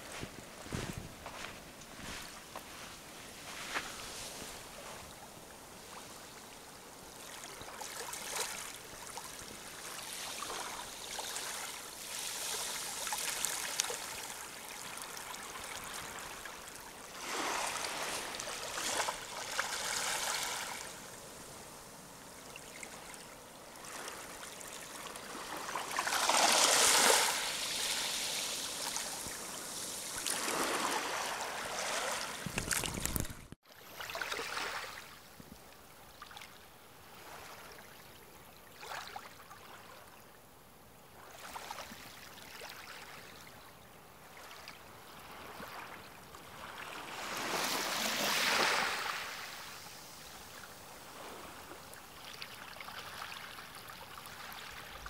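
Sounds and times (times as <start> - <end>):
small waves lapping on a pebble beach: 0.0 - 35.4, 36.0 - 40.2, 41.2 - 55.0.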